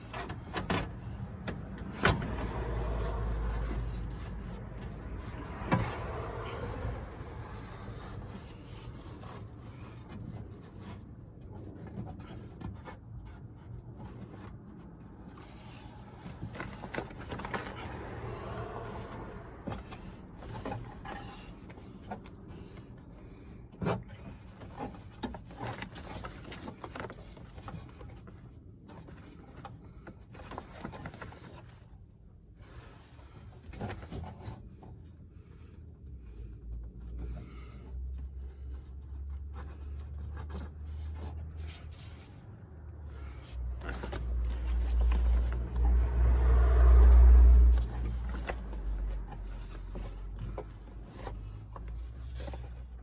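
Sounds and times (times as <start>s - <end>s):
car door parts rubbing and scraping: 0.0s - 35.3s, 38.5s - 53.0s.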